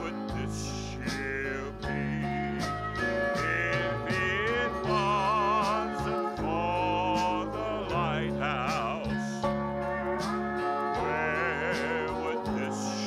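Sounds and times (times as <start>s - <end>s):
country gospel music with guitars: 0.0s - 13.0s.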